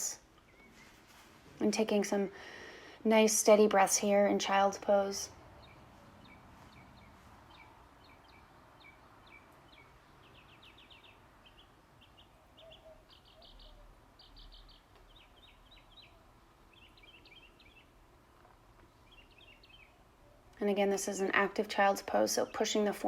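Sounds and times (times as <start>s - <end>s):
background hiss: 0.0s - 21.5s
birds chirping: 0.0s - 23.0s.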